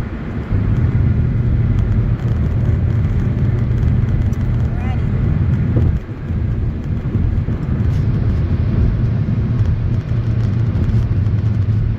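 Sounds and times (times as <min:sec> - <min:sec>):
road and tyre noise in car cabin: 0:00.0 - 0:11.9.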